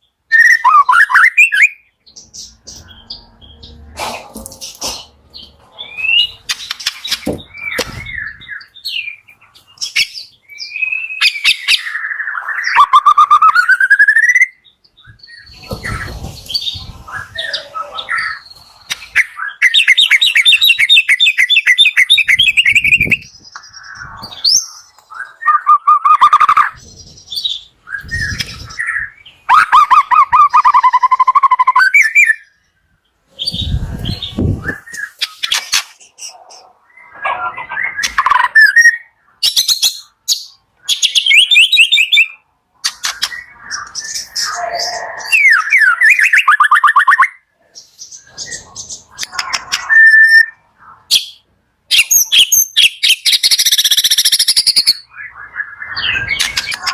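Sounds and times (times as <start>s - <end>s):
bird singing varied song: 0.0s - 56.9s.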